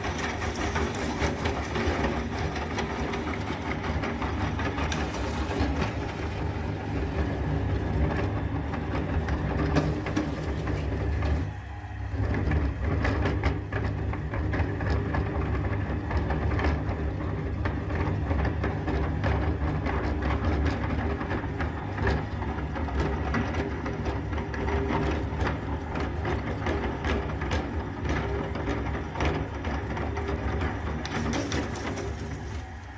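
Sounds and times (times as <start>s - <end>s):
electric meat grinder running: 0.0s - 32.9s.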